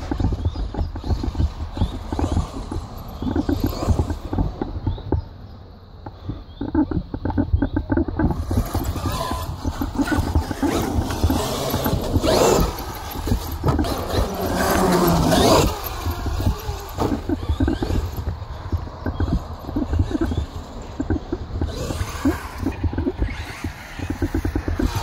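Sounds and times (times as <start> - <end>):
electric motors whining: 0.0 - 25.0
tyres scraping over ground: 0.0 - 25.0.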